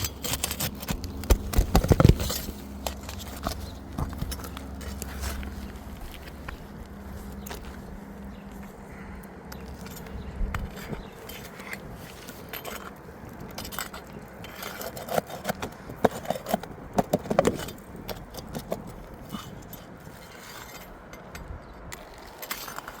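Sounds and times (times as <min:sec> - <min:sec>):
pry bar scraping roofing nails: 0:00.0 - 0:06.6, 0:07.3 - 0:23.0.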